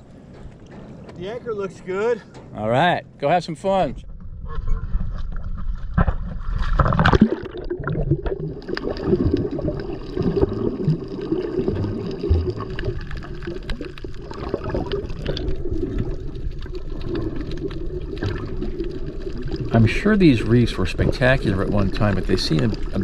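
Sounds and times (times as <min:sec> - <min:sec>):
water gurgling and sloshing: 0:04.0 - 0:23.0.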